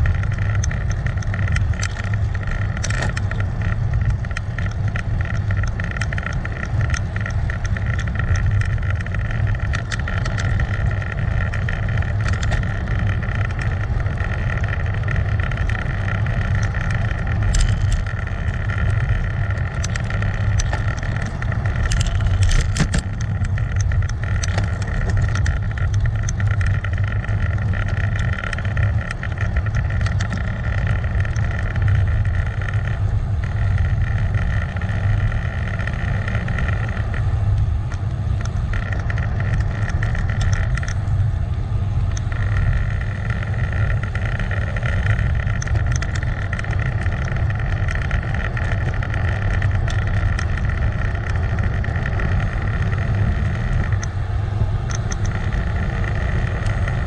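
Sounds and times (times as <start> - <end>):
road noise: 0.0 - 57.0
small clicks and rattles: 0.0 - 57.0
wind rumble on microphone: 0.0 - 57.0.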